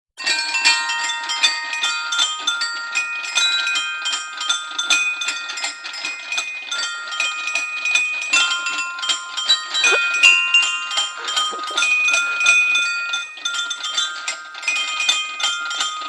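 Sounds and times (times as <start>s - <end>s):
metallic bell-like chiming: 0.2s - 16.0s.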